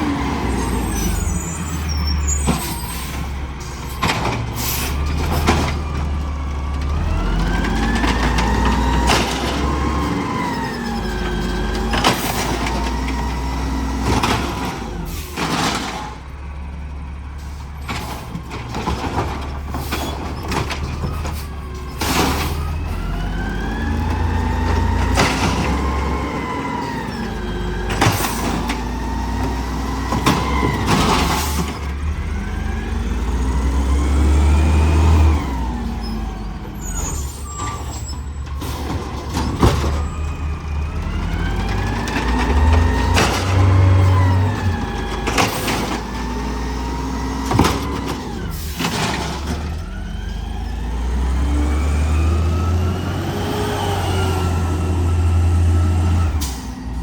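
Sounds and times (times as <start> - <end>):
garbage truck diesel engine revving: 0.0 - 57.0.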